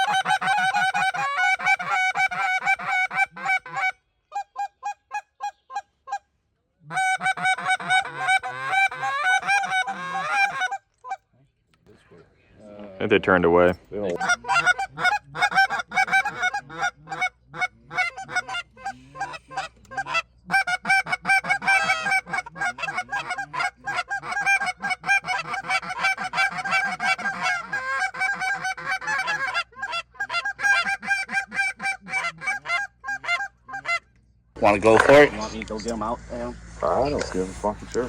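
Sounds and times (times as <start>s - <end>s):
geese honking: 0.0s - 6.2s, 6.9s - 11.2s, 14.1s - 36.0s.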